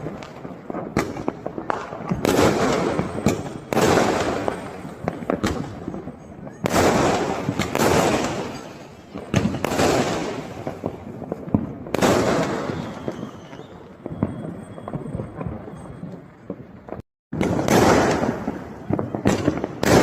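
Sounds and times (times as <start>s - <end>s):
fireworks bursts: 0.0s - 20.0s
fireworks crackling: 0.0s - 20.0s.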